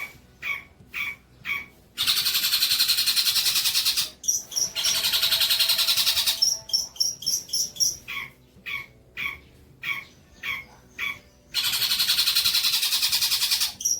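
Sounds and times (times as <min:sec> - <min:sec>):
bird chirps: 0:00.0 - 0:13.9
high piping bird notes: 0:00.0 - 0:13.9
songbird rattling trills: 0:00.4 - 0:13.9.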